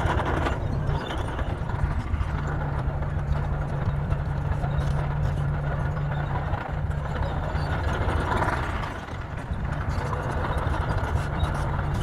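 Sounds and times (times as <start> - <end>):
bulldozer diesel engine droning: 0.0 - 12.0.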